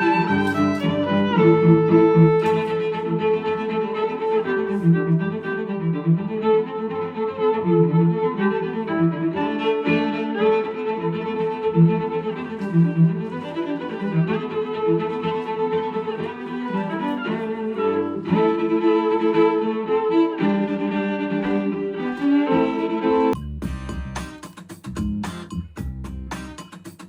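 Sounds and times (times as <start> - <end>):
bowed string music over speaker: 0.0 - 26.6.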